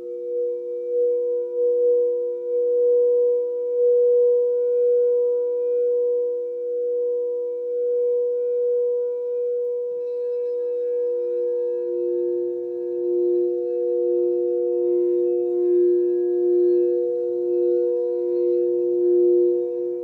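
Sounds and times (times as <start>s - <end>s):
faint higher ringing: 0.0s - 20.0s
singing bowls ringing: 0.0s - 20.0s.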